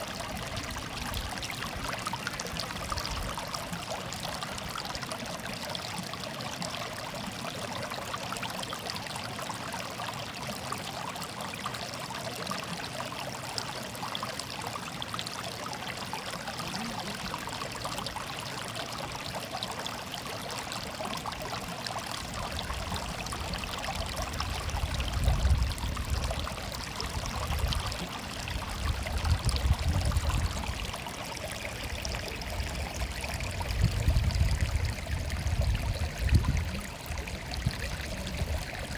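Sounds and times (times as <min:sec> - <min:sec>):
stream of water trickling: 0:00.0 - 0:38.9.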